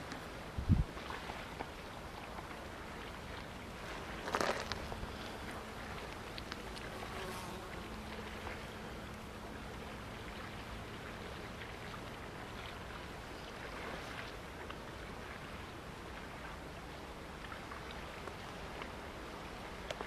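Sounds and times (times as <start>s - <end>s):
small waves lapping on shore: 0.0s - 20.0s
wind: 0.0s - 20.0s.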